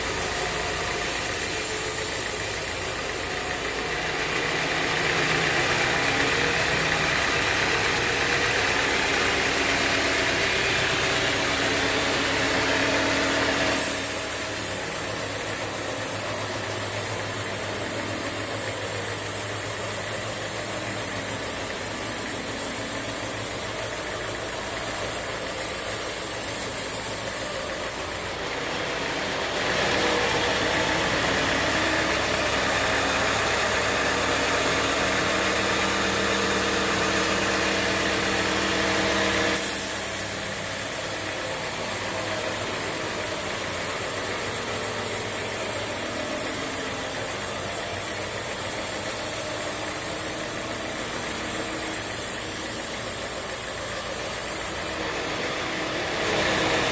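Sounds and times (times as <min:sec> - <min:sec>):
hiss: 0:00.0 - 0:28.5, 0:29.6 - 0:55.4
band sawmill machinery running: 0:00.0 - 0:56.9.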